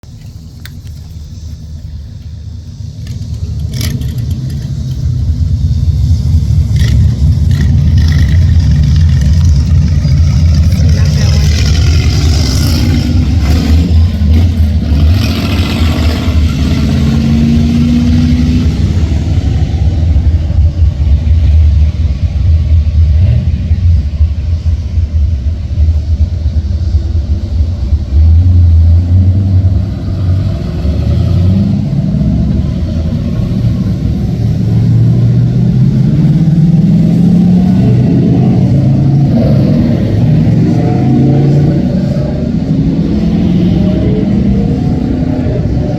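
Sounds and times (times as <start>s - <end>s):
car engines driving past: 0.0s - 45.9s.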